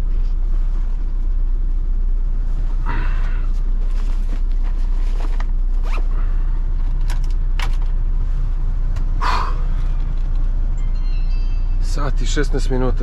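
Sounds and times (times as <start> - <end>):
clothes and objects rustling: 0.0 - 13.0
diesel truck engine idling: 0.0 - 13.0.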